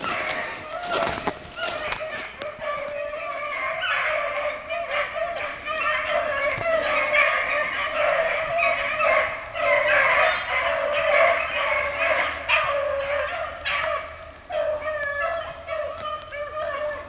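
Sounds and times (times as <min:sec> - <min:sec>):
dogs baying: 0:00.0 - 0:17.0.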